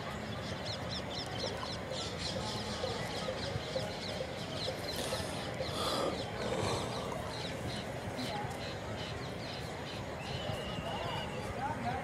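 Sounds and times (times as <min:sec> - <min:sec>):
low outdoor background noise: 0:00.0 - 0:12.0
small birds chirping: 0:00.2 - 0:11.5.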